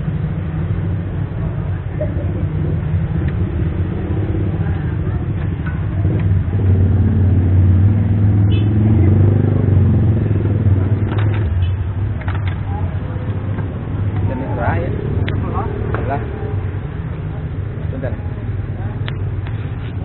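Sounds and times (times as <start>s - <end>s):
motorbike engine rumble: 0.0s - 20.0s
street traffic: 0.0s - 20.0s.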